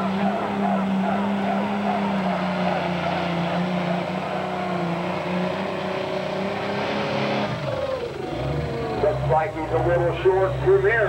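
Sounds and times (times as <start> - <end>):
diesel tractor engine at high revs: 0.0 - 11.0.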